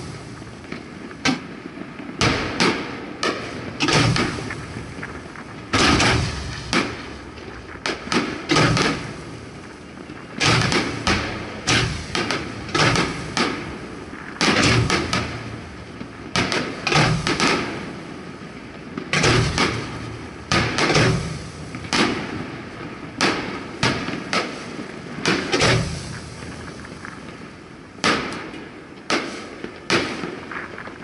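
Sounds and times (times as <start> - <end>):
fireworks bursting with sharp bangs: 0.0 - 31.0.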